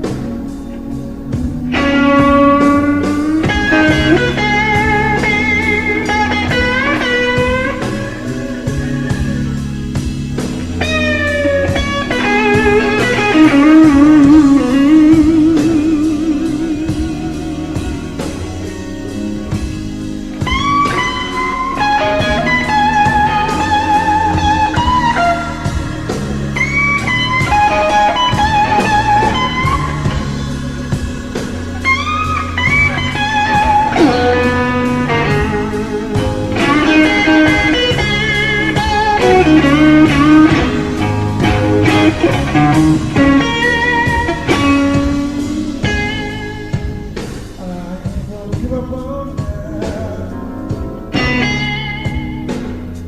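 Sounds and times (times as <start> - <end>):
electric blues guitar solo: 0.0 - 48.1, 48.9 - 53.0
bass line: 0.0 - 53.0.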